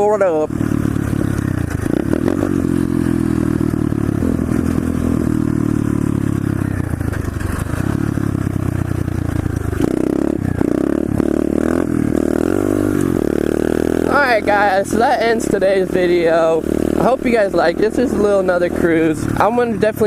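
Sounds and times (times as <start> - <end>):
motorbike engine running: 0.0 - 20.0.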